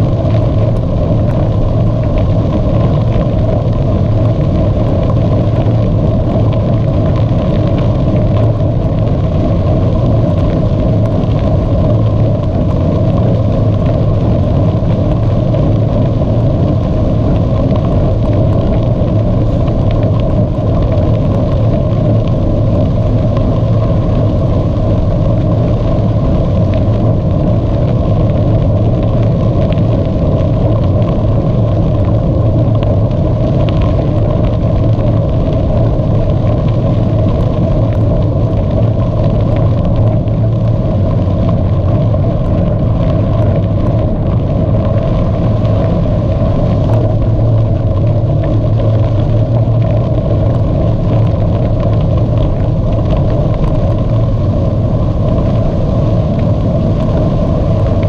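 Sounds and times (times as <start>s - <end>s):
bicycle tyres rolling on path: 0.0s - 58.0s
wind buffeting microphone: 0.0s - 58.0s.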